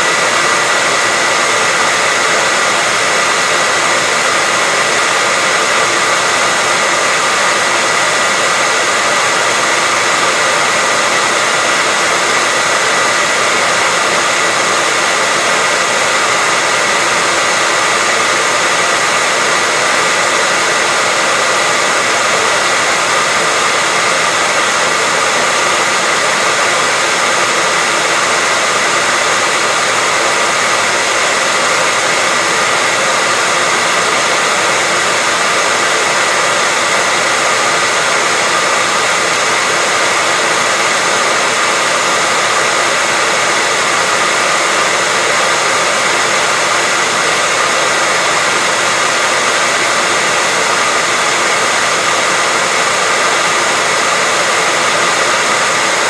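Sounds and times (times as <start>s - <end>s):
hairdryer running: 0.0s - 56.0s.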